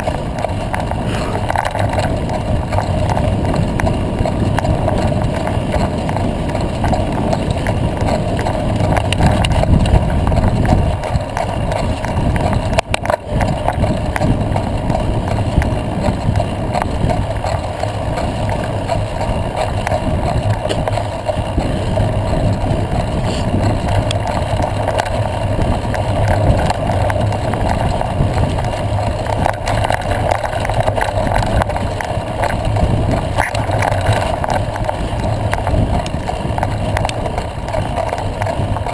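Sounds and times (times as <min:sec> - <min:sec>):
tyre rumble on dirt road: 0:00.0 - 0:38.9
wind on microphone: 0:00.0 - 0:38.9.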